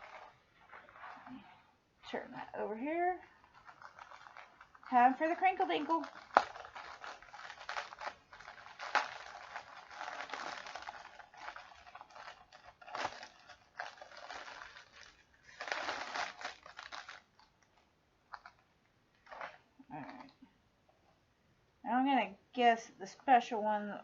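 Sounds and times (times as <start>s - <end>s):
plastic packaging crumpling: 0.0s - 20.4s.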